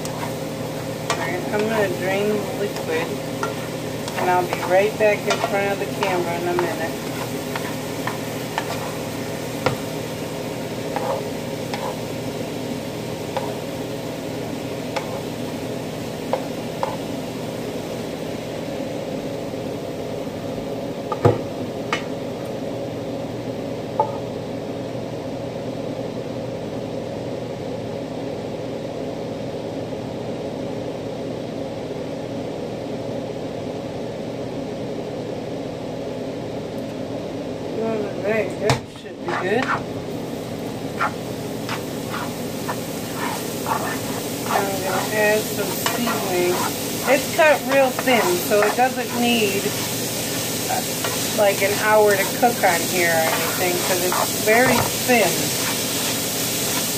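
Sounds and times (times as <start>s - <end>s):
exhaust fan humming: 0.0s - 25.2s, 36.3s - 56.9s.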